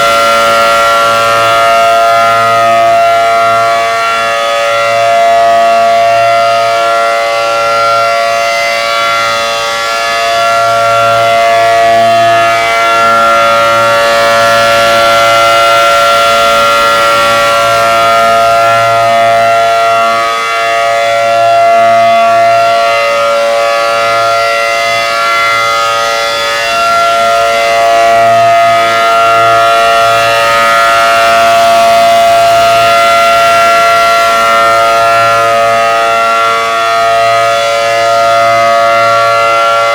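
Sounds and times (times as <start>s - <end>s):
electronic warning siren: 0.0s - 39.9s.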